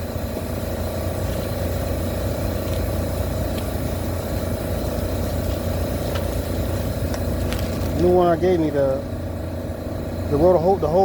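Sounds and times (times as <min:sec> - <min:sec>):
constant mid-pitched tone: 0:00.0 - 0:11.0
low machinery hum: 0:00.0 - 0:11.0.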